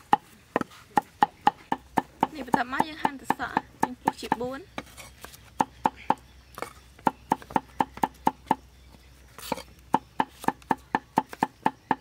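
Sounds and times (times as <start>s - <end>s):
knife chopping on wooden board: 0.1s - 8.6s, 9.4s - 12.0s.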